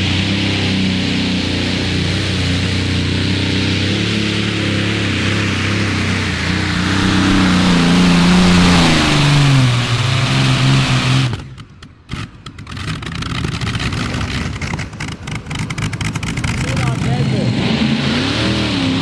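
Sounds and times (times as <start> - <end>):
rough crackling engine: 0.0 - 19.0
tractor engine running hard: 0.0 - 19.0.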